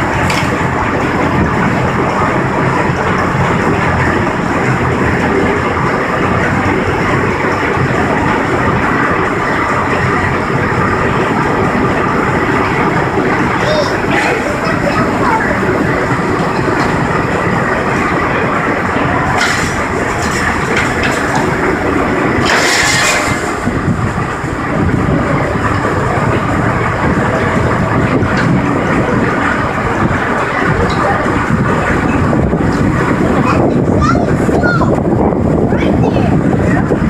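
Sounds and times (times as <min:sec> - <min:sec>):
sawmill machinery clattering: 0:00.0 - 0:37.0.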